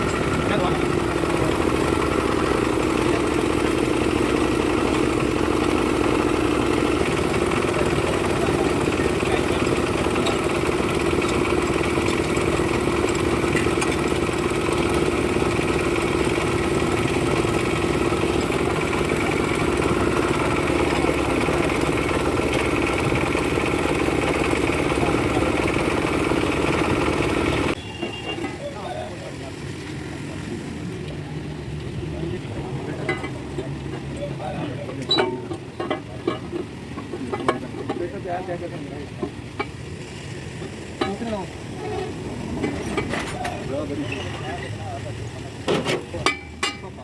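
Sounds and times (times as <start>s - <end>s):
truck diesel engine idling: 0.0s - 47.0s.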